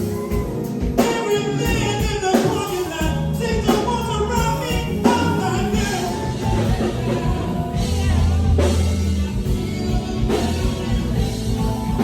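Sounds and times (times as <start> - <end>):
bass guitar: 0.0 - 12.0
drum kit: 0.0 - 12.0
electric guitar: 0.0 - 12.0
person singing: 0.0 - 12.0.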